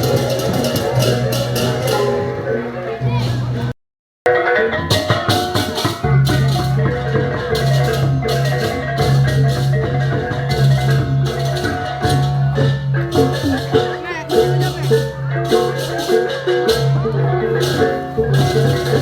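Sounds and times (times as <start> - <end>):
metallophones ringing: 0.0 - 3.6, 4.3 - 19.0.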